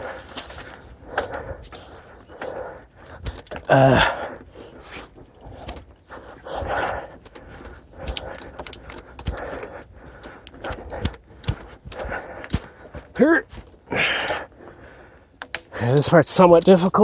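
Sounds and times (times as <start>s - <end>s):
person breathing hard: 0.0s - 16.0s
bike rattling over rocky trail: 0.0s - 17.0s.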